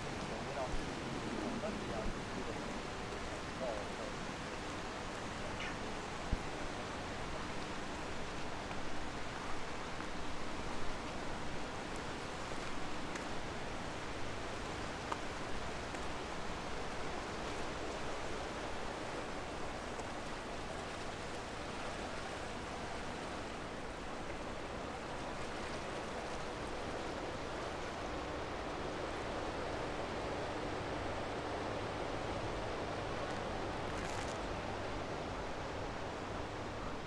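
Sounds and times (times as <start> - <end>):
river water flowing: 0.0 - 37.0.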